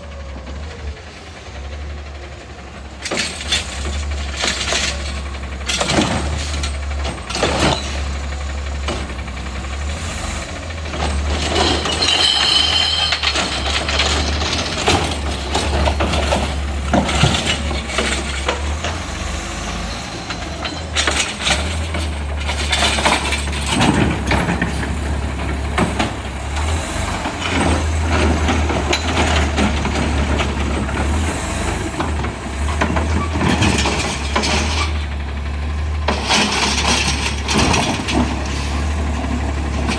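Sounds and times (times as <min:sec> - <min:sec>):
garbage truck engine running: 0:00.0 - 0:39.9
lifting arm and carts clanking: 0:00.2 - 0:39.9.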